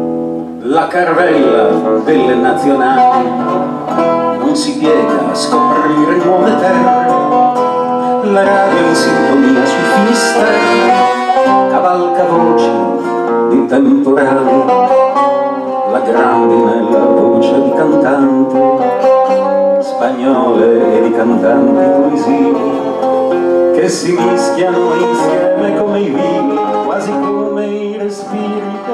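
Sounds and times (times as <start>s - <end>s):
acoustic band playing: 0.0s - 28.9s
plucked guitar lines: 0.0s - 28.9s.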